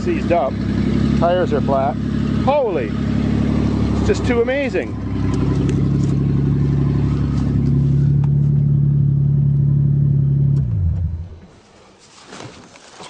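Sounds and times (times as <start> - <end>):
car engine running and stopping: 0.0 - 11.5.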